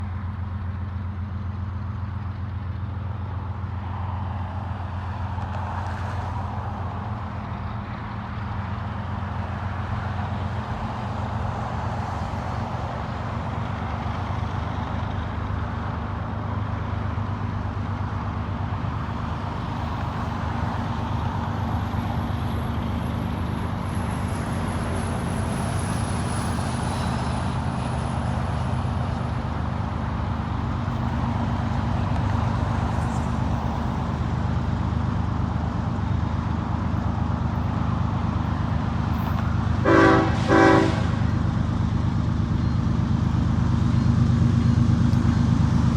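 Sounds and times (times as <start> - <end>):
diesel locomotive engine drone: 0.0 - 45.9.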